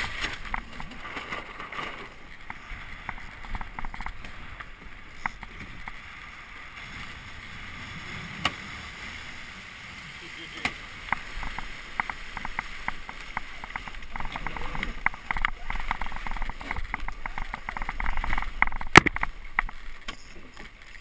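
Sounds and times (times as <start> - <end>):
water rushing along hull: 0.0 - 21.0.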